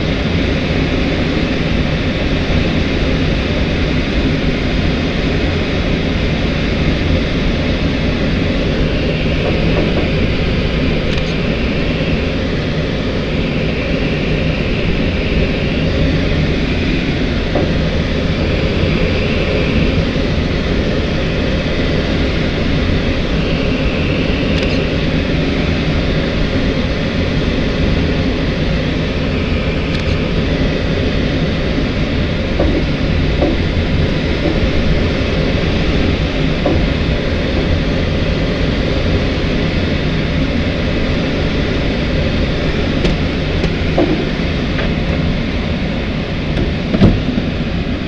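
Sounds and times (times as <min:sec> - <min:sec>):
air rushing past glider cockpit: 0:00.0 - 0:48.0.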